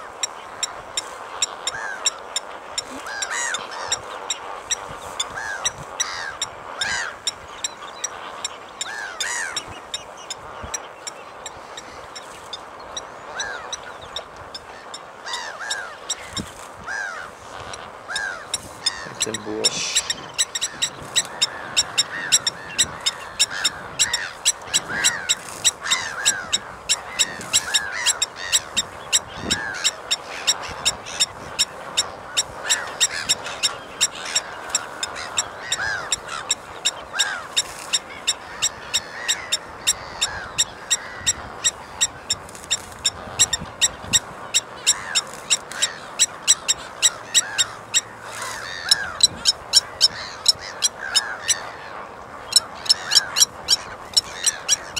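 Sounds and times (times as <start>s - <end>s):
bird metallic tink calls: 0.0s - 17.2s, 18.1s - 51.7s, 52.5s - 54.9s
softer arching bird calls: 0.0s - 54.9s.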